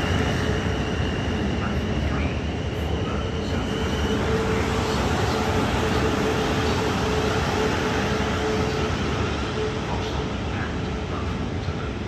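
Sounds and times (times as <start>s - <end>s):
high-pitched whine: 0.0s - 12.0s
mid-pitched train whine: 0.0s - 12.0s
train rumble: 0.0s - 12.0s.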